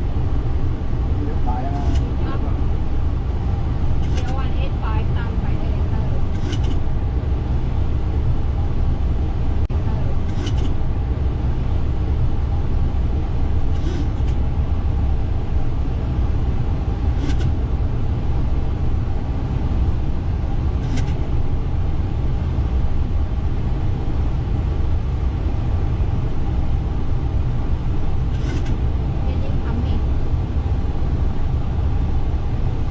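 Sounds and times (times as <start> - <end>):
airliner engine and airflow rumble: 0.0 - 32.9
faint steady hum: 0.0 - 32.9.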